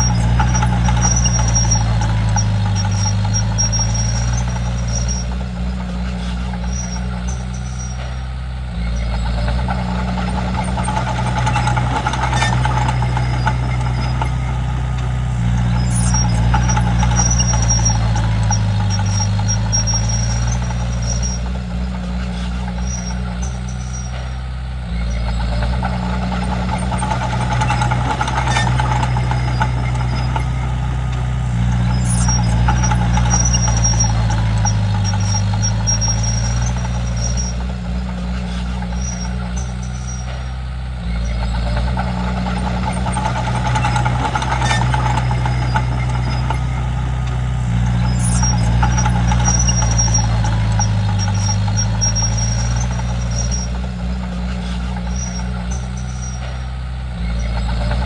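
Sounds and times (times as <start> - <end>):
bulldozer diesel engine under load: 0.0 - 58.0
faint high metallic squeaks: 0.0 - 58.0.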